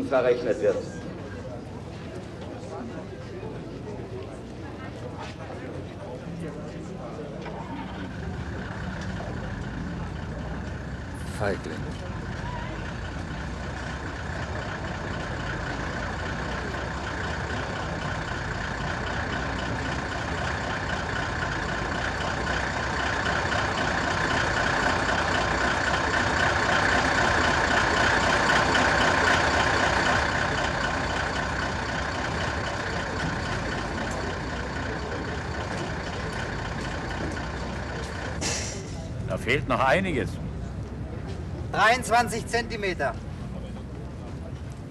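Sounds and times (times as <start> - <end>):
diesel truck driving past: 5.6 - 44.9.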